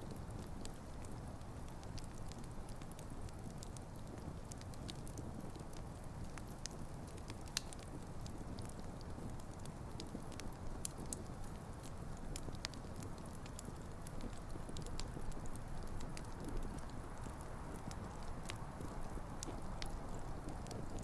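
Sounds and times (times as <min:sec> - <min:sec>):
burning logs crackling: 0:00.0 - 0:21.0
low rush of fire flames: 0:00.1 - 0:21.0.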